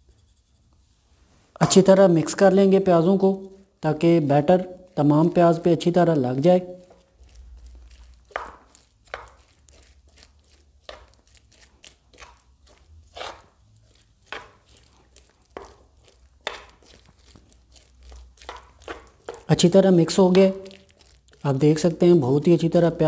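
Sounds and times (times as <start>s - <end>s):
spoon stirring batter in bowl: 1.7s - 23.0s.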